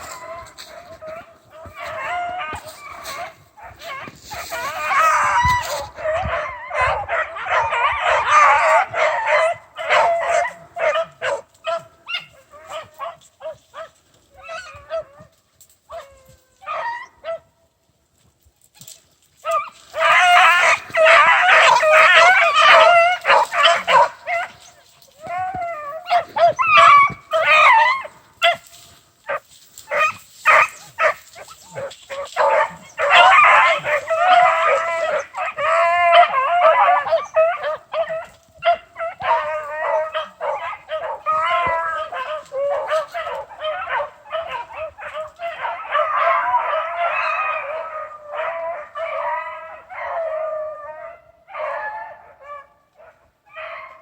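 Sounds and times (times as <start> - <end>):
hounds baying: 0.0 - 17.5, 18.8 - 54.0.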